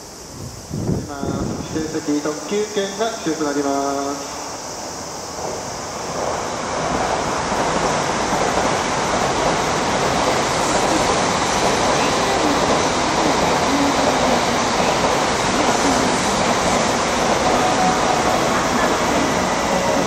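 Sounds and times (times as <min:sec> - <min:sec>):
high-speed train rushing roar: 0:00.0 - 0:20.0.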